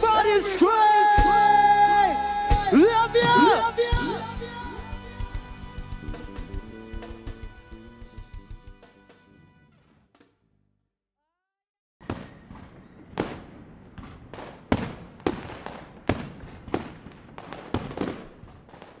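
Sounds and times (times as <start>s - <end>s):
fireworks bangs with crackling: 0.0s - 8.8s, 12.0s - 19.0s.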